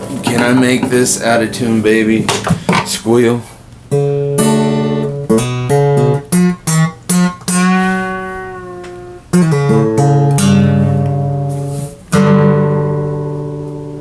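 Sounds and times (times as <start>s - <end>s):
guitar strummed and picked: 0.0s - 3.0s, 3.8s - 14.0s.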